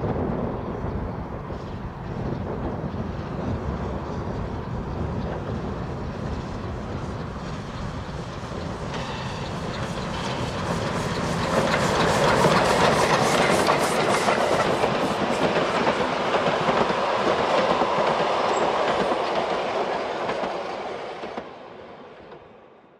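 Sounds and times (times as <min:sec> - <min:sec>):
steam train rolling past: 0:00.0 - 0:22.7.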